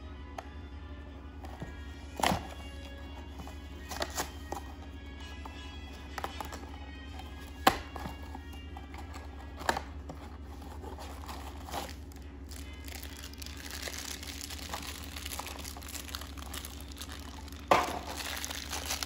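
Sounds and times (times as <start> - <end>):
foil bag and box crinkling: 1.4 - 19.0.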